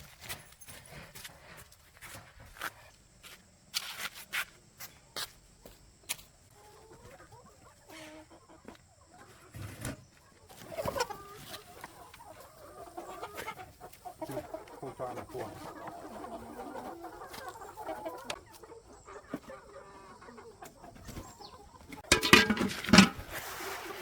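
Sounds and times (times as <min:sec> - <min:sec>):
chickens clucking: 0:00.0 - 0:23.8.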